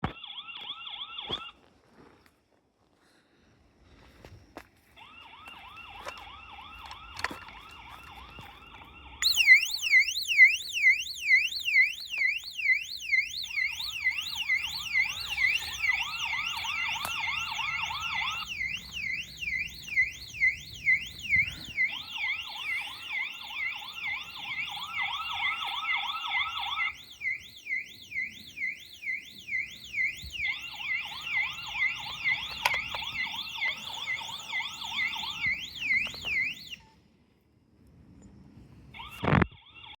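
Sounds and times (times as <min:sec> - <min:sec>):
piercing sweeping siren: 0:00.0 - 0:01.6, 0:05.0 - 0:37.0, 0:38.9 - 0:40.0
warbling alarm: 0:00.0 - 0:01.6, 0:05.0 - 0:36.9, 0:38.9 - 0:40.0.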